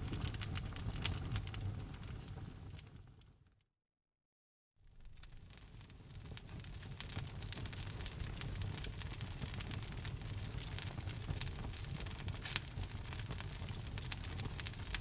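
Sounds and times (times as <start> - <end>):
logs crackling and popping in fire: 0.0 - 3.1, 5.0 - 15.0
low rumble of flames: 0.0 - 3.3, 4.9 - 15.0.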